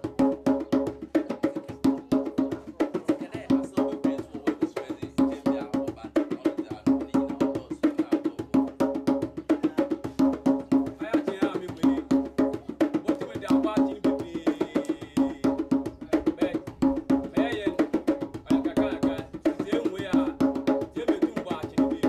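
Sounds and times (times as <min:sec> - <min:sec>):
hand drum rhythm: 0:00.0 - 0:22.0.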